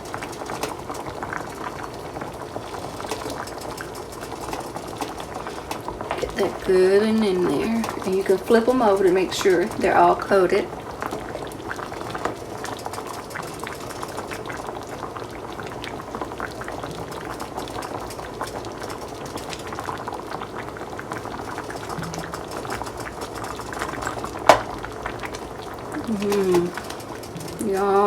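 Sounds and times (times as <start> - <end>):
gravy bubbling in a pan: 0.0 - 28.0.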